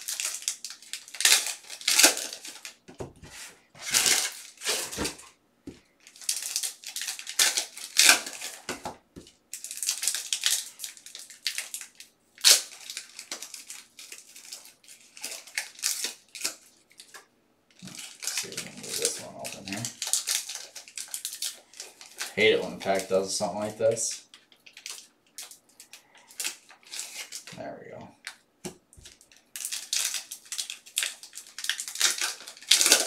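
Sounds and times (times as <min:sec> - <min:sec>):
foil wrappers crinkling and tearing: 0:00.0 - 0:02.8, 0:03.8 - 0:05.3, 0:06.0 - 0:28.4, 0:29.0 - 0:33.0.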